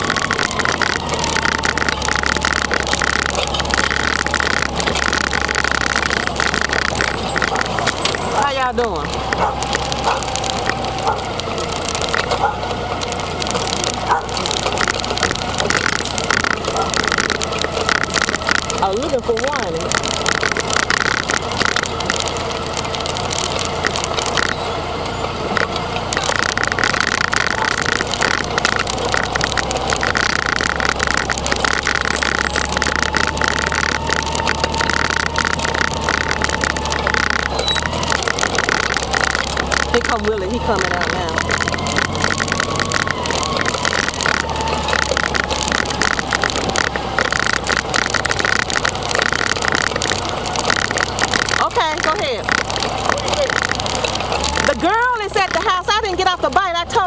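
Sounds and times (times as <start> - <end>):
fast clicking rattle: 0.0 - 57.0
irregular crackling noise: 0.0 - 57.0
motorcycle engine running: 0.0 - 57.0.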